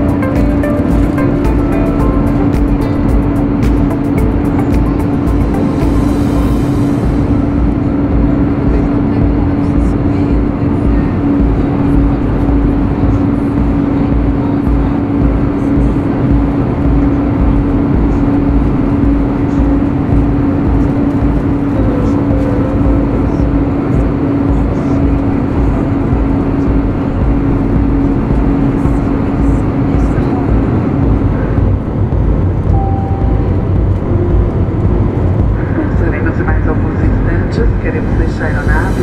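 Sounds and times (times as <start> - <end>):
rush of air in jet cabin: 0.0 - 33.0, 33.7 - 39.0
steady droning hum: 0.0 - 39.0.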